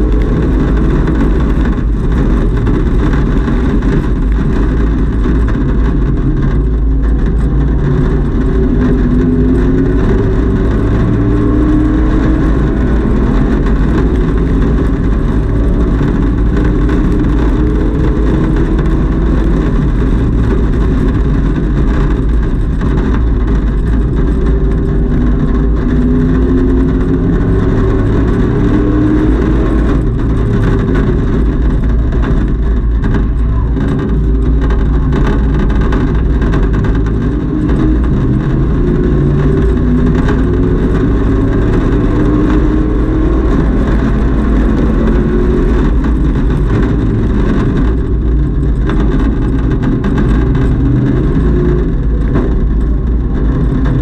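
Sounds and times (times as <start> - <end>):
race car engine running hard: 0.0 - 54.0
wind and road noise: 0.0 - 54.0.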